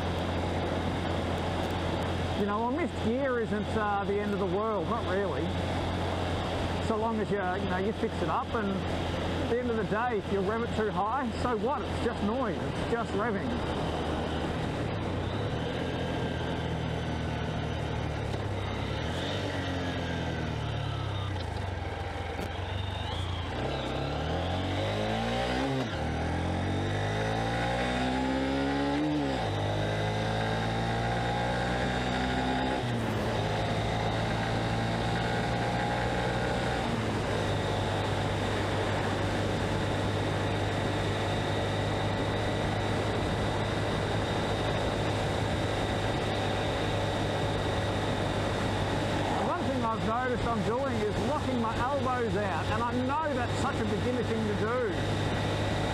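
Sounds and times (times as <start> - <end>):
motorcycle engine revving through gears: 0.0 - 55.9.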